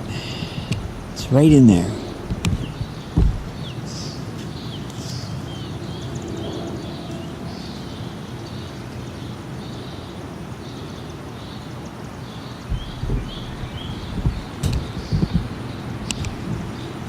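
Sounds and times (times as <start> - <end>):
jet airliner rumble overhead: 0.0 - 11.3, 12.6 - 17.0
bird chirping: 0.0 - 17.0.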